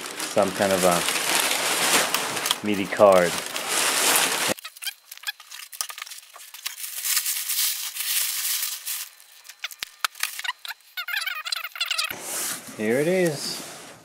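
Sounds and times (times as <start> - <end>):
packaging crinkling: 0.0 - 12.1.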